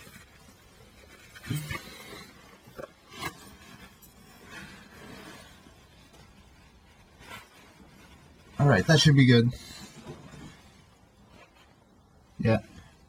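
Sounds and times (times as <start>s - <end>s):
soft rustling: 0.0s - 13.0s.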